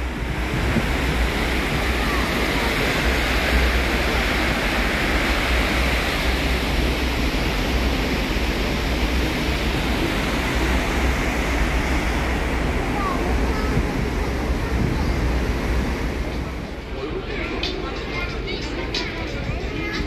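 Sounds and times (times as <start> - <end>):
wind and sea rushing: 0.0 - 20.0
wind buffeting microphone: 0.0 - 20.0.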